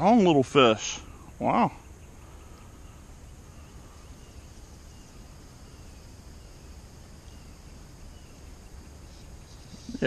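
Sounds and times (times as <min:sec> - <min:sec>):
faint bird chirps: 0:00.0 - 0:10.0
low steady rumble: 0:00.0 - 0:10.0.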